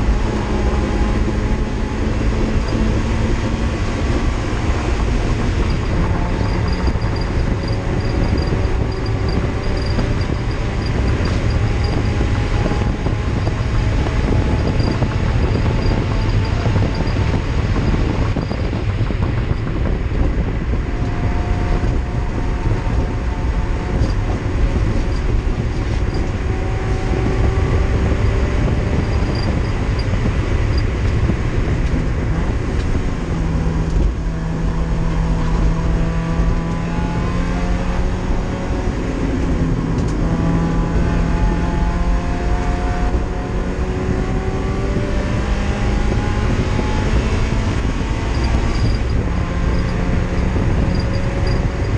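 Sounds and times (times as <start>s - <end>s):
race car engine revving: 0.0s - 51.9s
road and wind noise: 0.0s - 51.9s.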